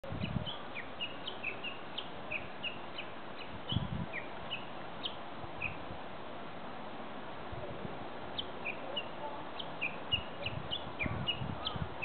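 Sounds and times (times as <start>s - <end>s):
songbird chirping: 0.0s - 5.9s, 8.3s - 12.0s.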